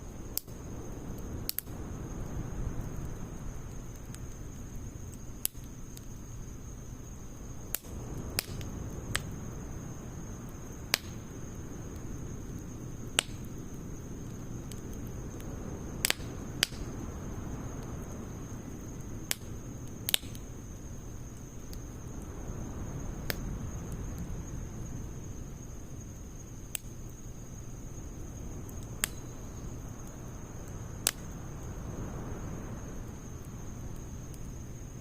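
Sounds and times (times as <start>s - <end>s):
campfire crackles and pops: 0.0s - 35.0s
flames rustling: 0.0s - 35.0s.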